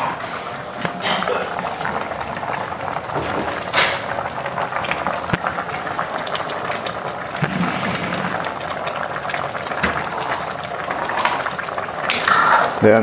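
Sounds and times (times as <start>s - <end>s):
sauce boiling with pops: 0.0s - 13.0s.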